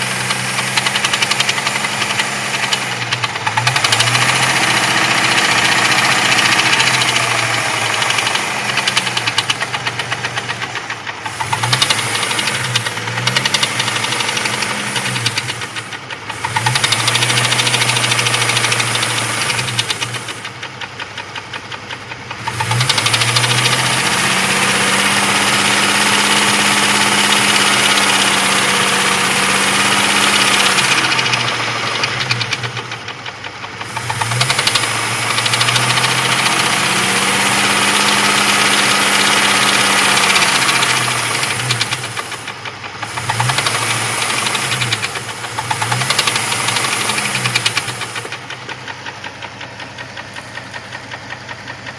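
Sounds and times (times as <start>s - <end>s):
engine revving and idling: 0.0s - 51.9s
rapid engine knock: 0.0s - 51.9s.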